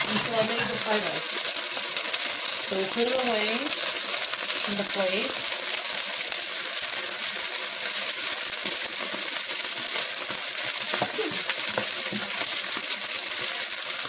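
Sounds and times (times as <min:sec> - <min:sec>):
beef sizzling in oil: 0:00.0 - 0:14.0.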